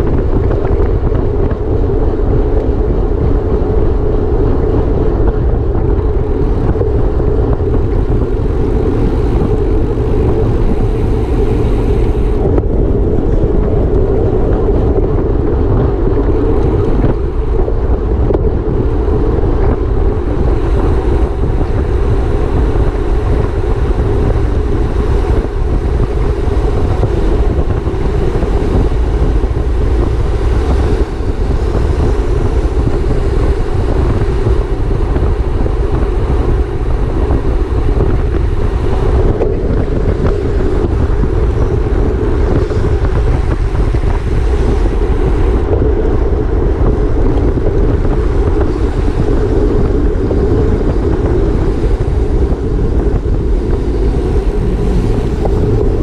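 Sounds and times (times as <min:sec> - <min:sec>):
low road rumble: 0:00.0 - 0:56.0
wind rushing over microphone: 0:00.0 - 0:56.0.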